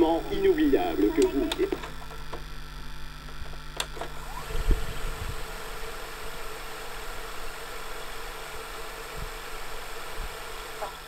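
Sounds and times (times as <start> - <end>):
tape recorder winding hum: 0.0 - 11.0.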